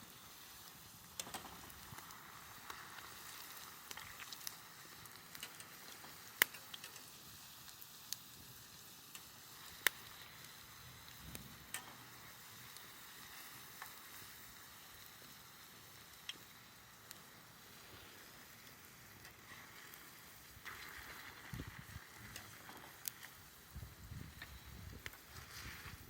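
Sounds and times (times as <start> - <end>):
food sizzling over campfire: 0.0 - 26.0
sharp fire pops: 0.0 - 26.0.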